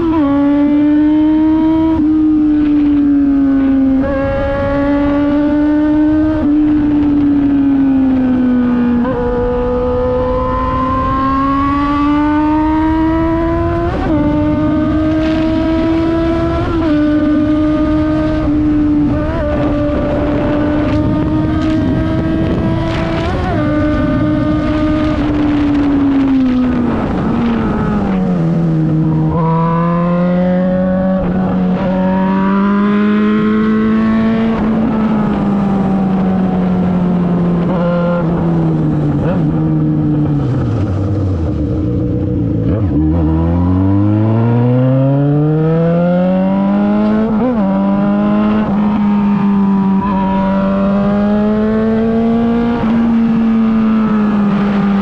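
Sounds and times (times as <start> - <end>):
motorcycle engine under way: 0.0 - 55.0.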